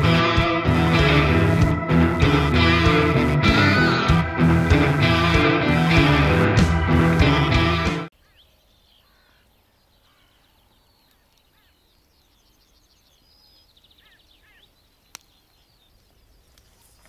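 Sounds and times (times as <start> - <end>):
songbirds chirping: 0.1 - 17.0.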